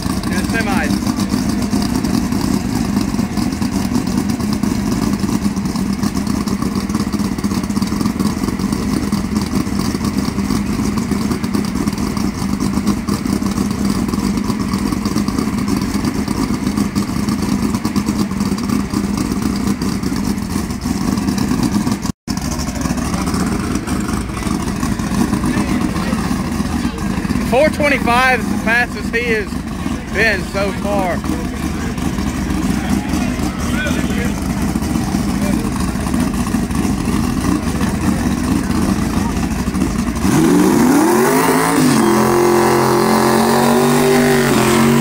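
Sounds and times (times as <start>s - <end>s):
race car engine idling: 0.0s - 45.0s.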